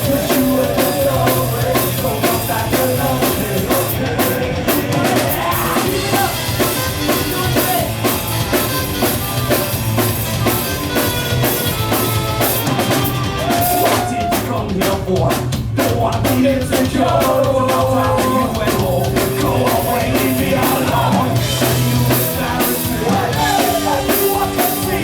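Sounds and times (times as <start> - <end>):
drum kit steady beat: 0.0 - 25.0
live rock band playing: 0.0 - 25.0.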